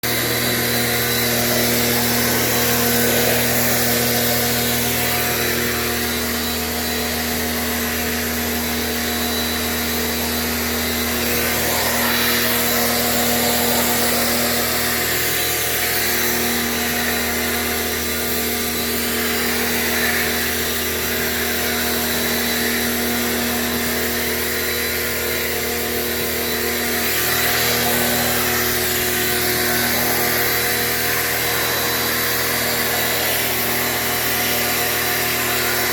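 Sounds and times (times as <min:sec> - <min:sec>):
low motor hum: 0:00.0 - 0:35.9
machine motor hissing: 0:00.1 - 0:35.9.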